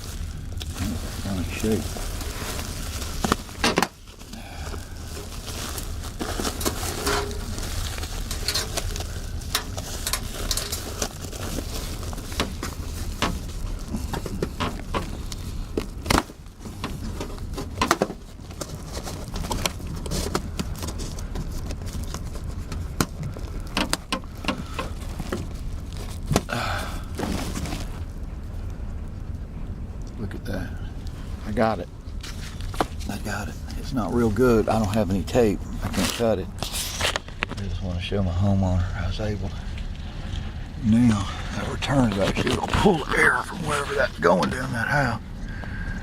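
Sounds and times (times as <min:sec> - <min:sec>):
flexible duct rustling and crinkling: 0:00.0 - 0:46.0
steady low hum: 0:00.0 - 0:46.0.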